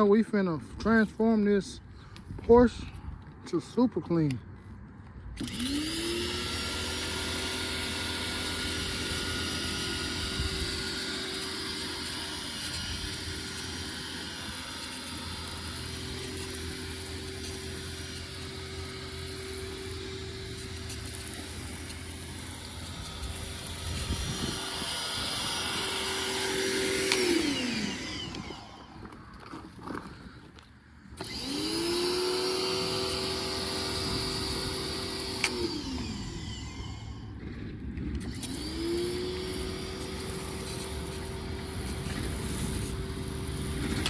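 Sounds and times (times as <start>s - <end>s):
vacuum cleaner motor running: 5.4s - 30.6s, 31.2s - 37.4s, 38.2s - 44.0s.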